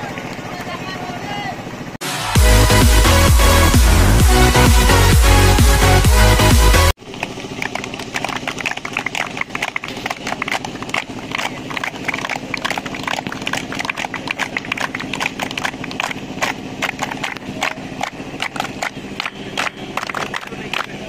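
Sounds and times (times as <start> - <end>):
people clapping hands: 2.7 - 21.0.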